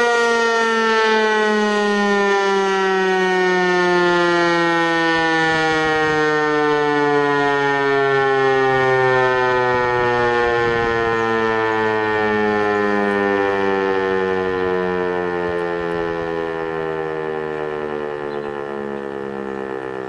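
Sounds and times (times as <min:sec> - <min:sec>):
fire siren sliding down in pitch: 0:00.0 - 0:20.0.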